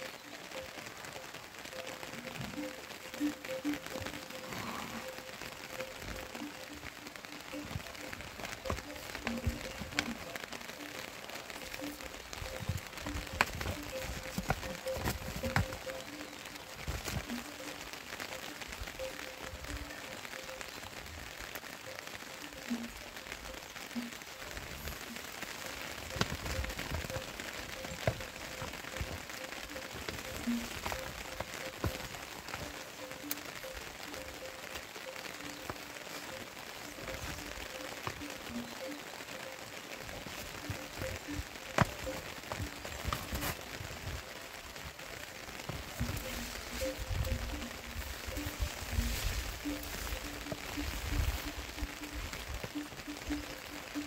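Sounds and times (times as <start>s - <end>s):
crackling and rustling vegetation: 0.0s - 54.0s
light rain on leaves and grass: 0.0s - 54.0s.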